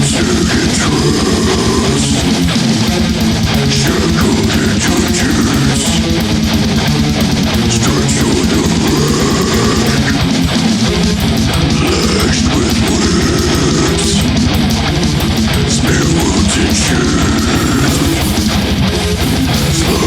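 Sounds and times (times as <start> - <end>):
distorted electric guitars riffing: 0.0 - 20.0
fast drum beat: 0.0 - 20.0.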